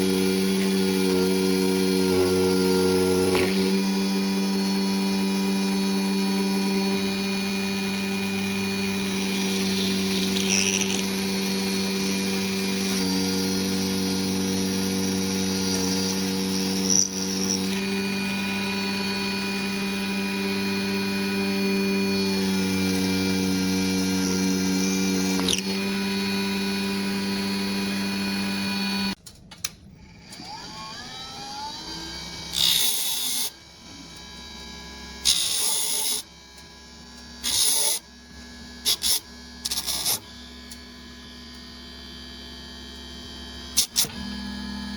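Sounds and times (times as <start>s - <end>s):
table saw motor humming: 0.0s - 29.2s, 30.2s - 44.9s.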